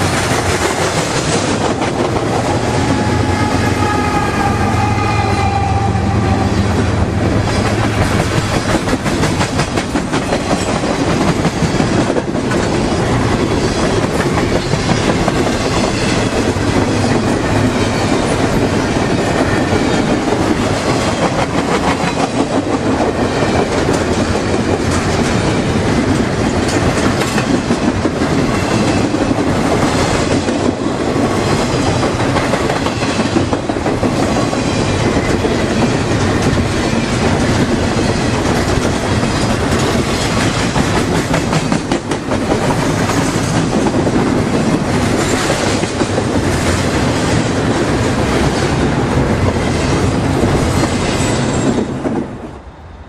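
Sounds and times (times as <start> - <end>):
freight train wheels rumbling: 0.0 - 53.0
wheels clacking over rail joints: 7.1 - 52.3.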